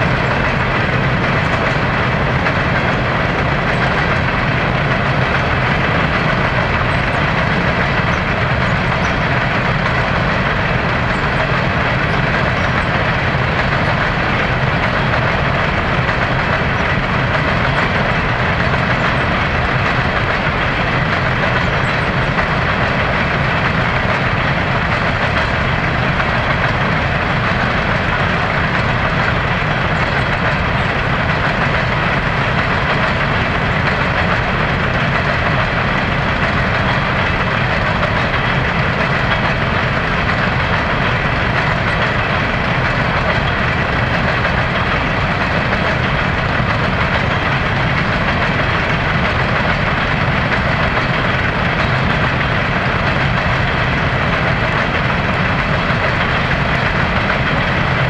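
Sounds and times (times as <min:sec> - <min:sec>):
train cars rolling on rails: 0:00.0 - 0:58.0.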